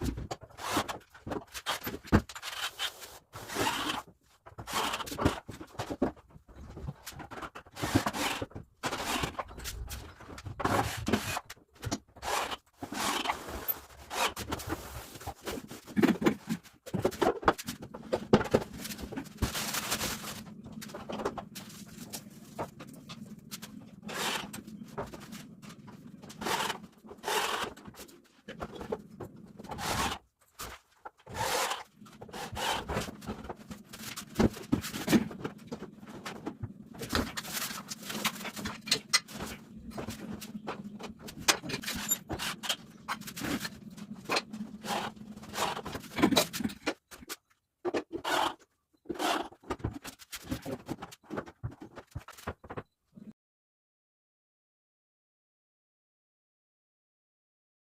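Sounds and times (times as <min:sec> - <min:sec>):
knocks and scrapes of furniture parts: 0:00.0 - 0:48.5, 0:49.1 - 0:53.3.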